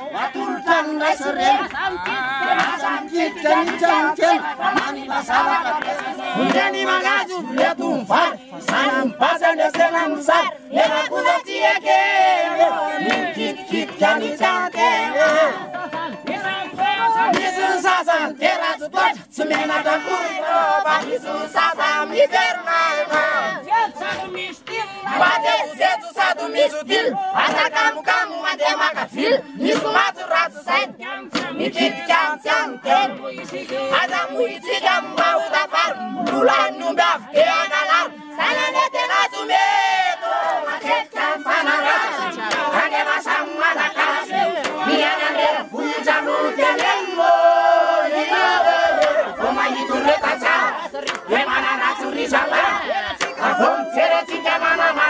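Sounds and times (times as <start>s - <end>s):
group singing loudly: 0.0s - 55.0s.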